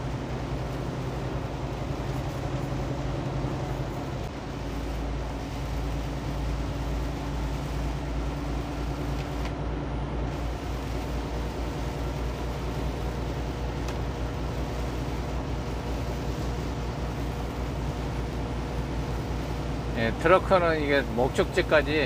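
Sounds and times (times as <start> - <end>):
tyres hissing on wet road: 0.0 - 9.5, 10.2 - 22.0
diesel engine drone: 0.0 - 22.0.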